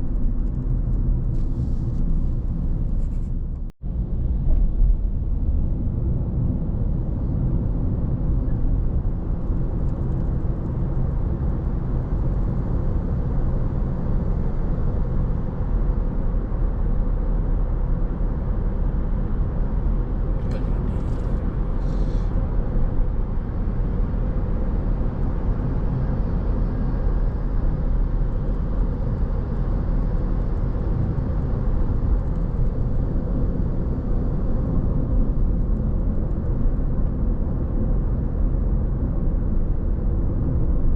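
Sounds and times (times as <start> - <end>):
car engine and tyre road noise: 0.0 - 40.9.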